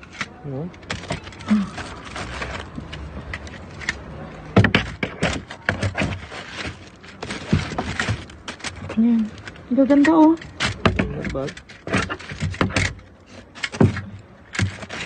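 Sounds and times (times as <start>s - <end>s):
paper bags rustling: 0.0s - 15.0s
scrapes and small knocks: 0.0s - 15.0s.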